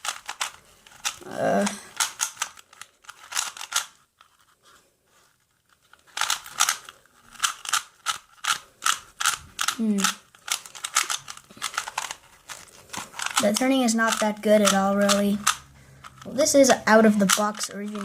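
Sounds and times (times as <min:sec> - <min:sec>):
puzzle cube plastic clicks: 0:00.0 - 0:04.5, 0:05.5 - 0:18.0.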